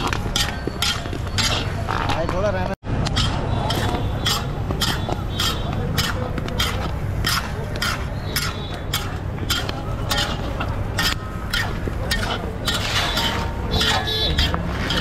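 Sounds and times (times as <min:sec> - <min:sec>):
salt and popcorn scraping metal pan: 0:00.0 - 0:02.1, 0:03.1 - 0:15.0.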